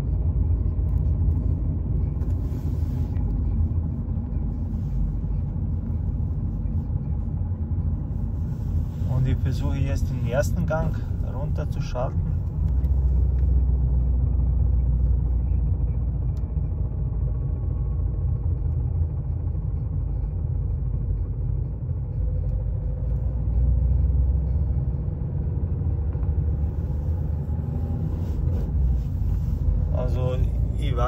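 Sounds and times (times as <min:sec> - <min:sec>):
diesel engine rumble: 0:00.0 - 0:31.0.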